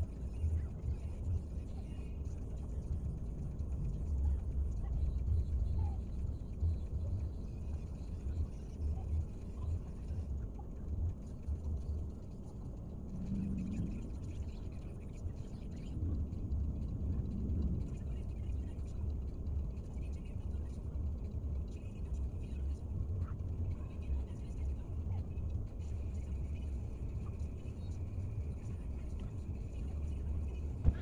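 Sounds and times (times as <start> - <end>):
faint voices outside: 0.0 - 31.0
low rumble in car cabin: 0.0 - 31.0.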